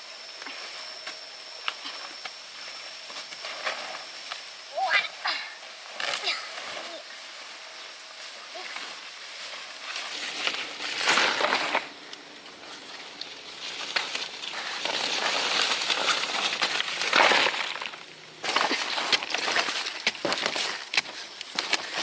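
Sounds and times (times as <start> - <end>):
dry leaves rustling: 2.7 - 22.0.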